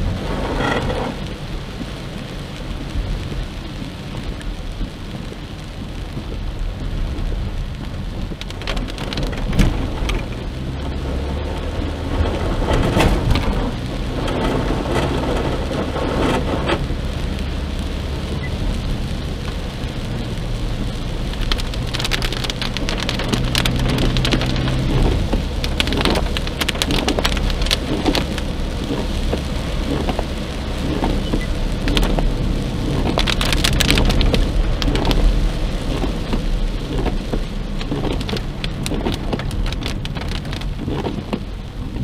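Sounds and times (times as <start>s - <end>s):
rain on car windshield: 0.0s - 42.0s
tyres hissing on wet road: 0.0s - 42.0s.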